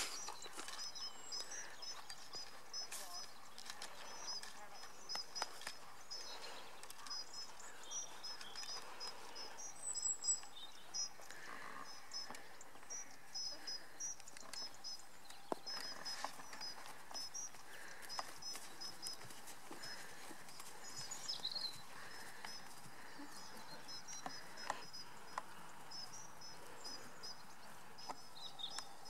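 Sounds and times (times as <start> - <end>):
faint outdoor background: 0.0 - 29.0
small bird chirping: 0.0 - 29.0.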